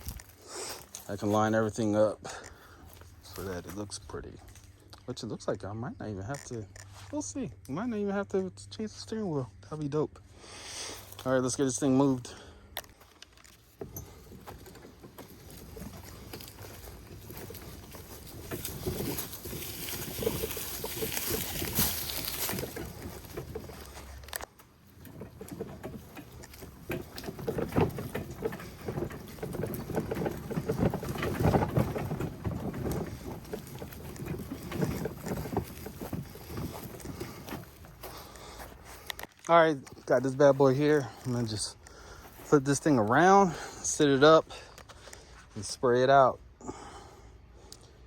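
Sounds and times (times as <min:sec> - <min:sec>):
plastic toy car rattling and scraping: 0:00.0 - 0:07.4, 0:11.0 - 0:46.3.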